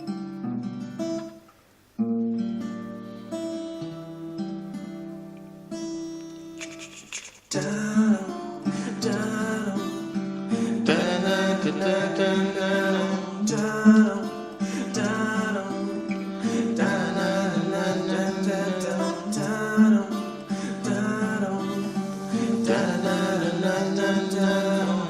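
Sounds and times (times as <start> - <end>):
guitar: 0.0 - 25.0.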